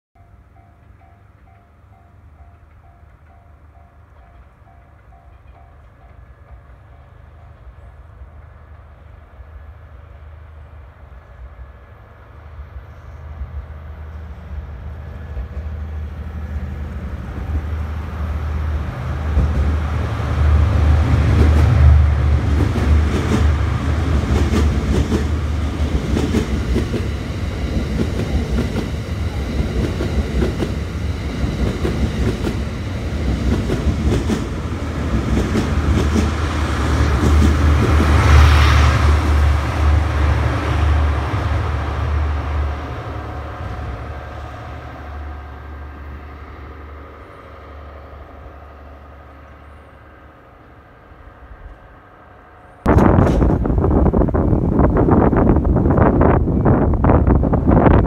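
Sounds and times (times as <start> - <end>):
low train engine drone: 0.2 - 58.0.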